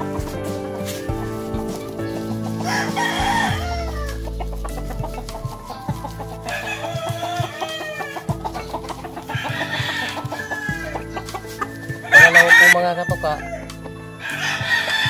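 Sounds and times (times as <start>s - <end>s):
chickens clucking: 0.0s - 15.0s
roosters crowing: 1.0s - 15.0s.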